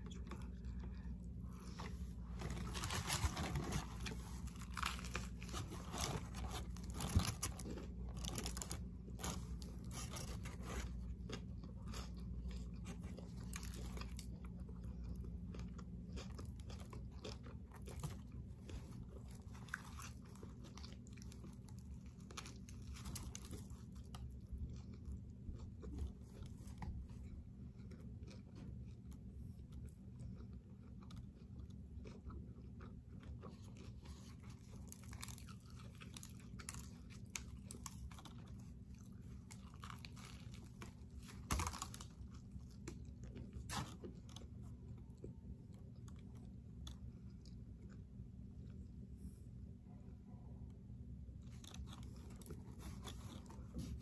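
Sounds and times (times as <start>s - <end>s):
chewing and biting sandwich: 0.0s - 49.7s, 50.8s - 54.0s
steady low hum: 0.0s - 54.0s.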